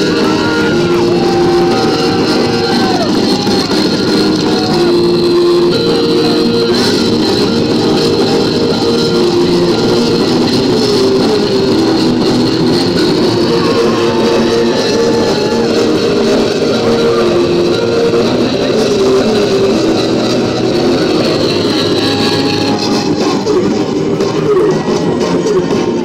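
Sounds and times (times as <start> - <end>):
rock music with guitar: 0.0 - 26.0.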